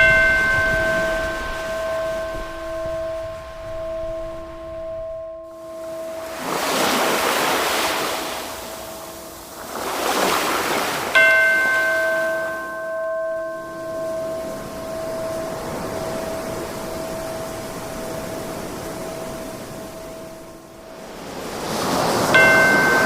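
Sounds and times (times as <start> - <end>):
bell struck and ringing: 0.0 - 10.4, 11.1 - 23.0
ocean waves washing in: 0.0 - 23.0
steady ringing tone: 0.0 - 23.0.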